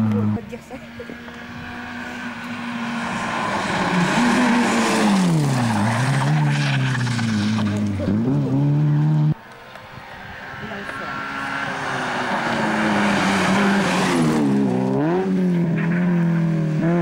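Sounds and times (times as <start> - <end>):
rally car engine passing by: 0.0 - 17.0.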